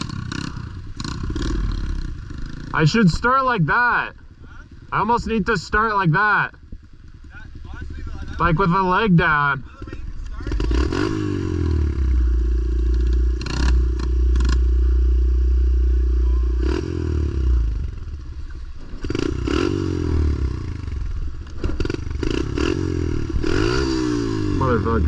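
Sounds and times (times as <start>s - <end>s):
pit bike engine revving: 0.0s - 25.0s.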